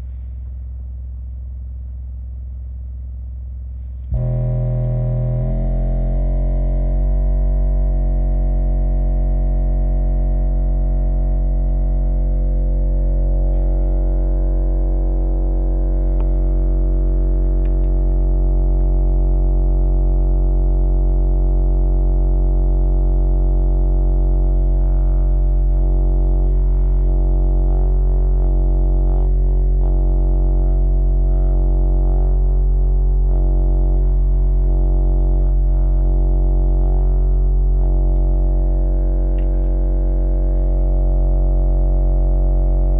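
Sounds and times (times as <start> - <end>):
speaker buzzing hum: 0.0 - 42.9.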